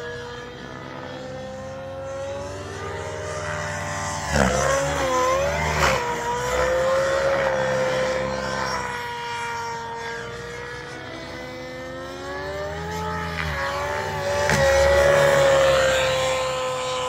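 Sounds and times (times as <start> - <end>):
model helicopter engine and rotors: 0.0 - 17.0.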